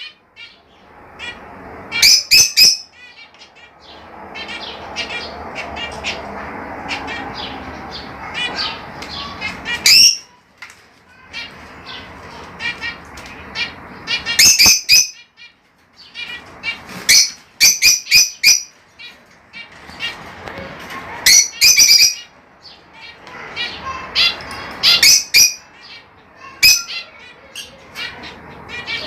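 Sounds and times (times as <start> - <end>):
budgerigars chirping and squawking: 0.0 - 10.4, 11.1 - 29.0.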